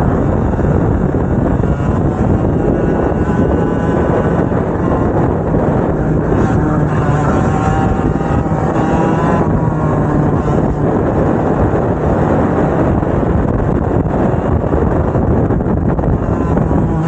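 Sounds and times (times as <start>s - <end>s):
high engine whine: 0.0s - 17.0s
kart engines running: 0.0s - 17.0s.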